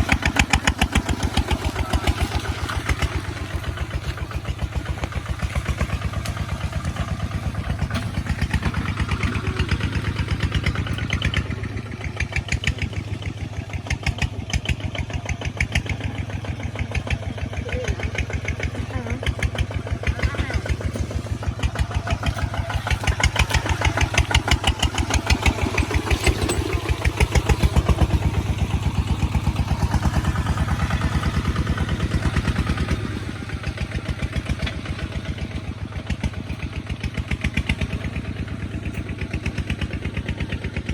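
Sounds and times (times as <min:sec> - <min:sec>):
diesel engine puttering: 0:00.0 - 0:40.9.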